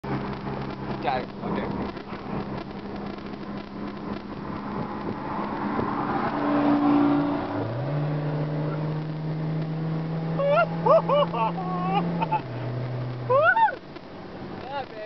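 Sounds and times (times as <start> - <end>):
car engine accelerating: 0.0 - 15.0
road noise inside a car: 0.0 - 15.0.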